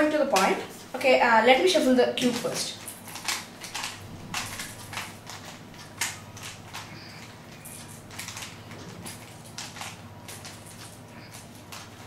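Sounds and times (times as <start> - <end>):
puzzle cube clacking and rattling: 2.2 - 12.0.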